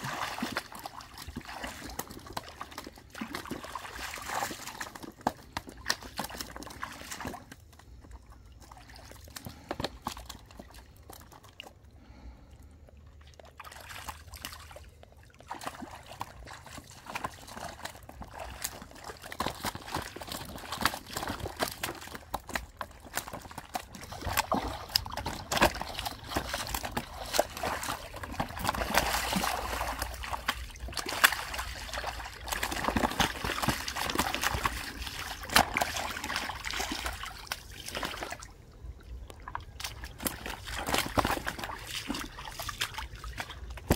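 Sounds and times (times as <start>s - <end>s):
splashing in shallow water: 0.0s - 43.9s
water trickling: 0.0s - 43.9s.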